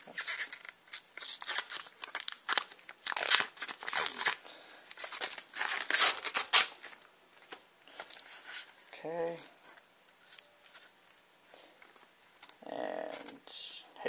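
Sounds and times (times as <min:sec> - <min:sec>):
plastic wrapping crinkling: 0:00.0 - 0:13.4.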